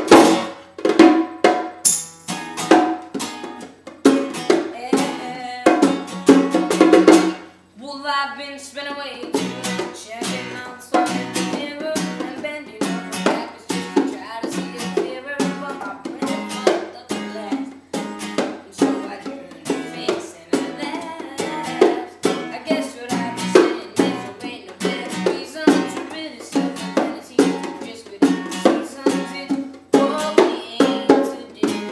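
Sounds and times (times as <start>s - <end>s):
acoustic string instrument strummed: 0.0s - 7.6s, 8.9s - 31.9s.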